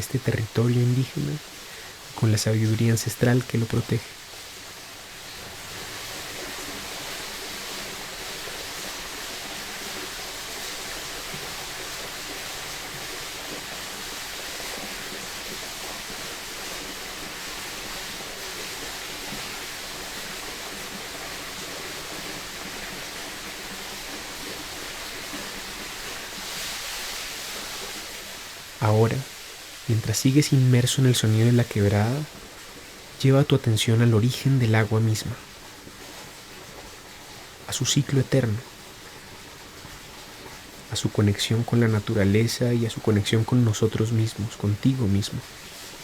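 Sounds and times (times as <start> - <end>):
creek rushing over cascades: 0.0 - 46.0.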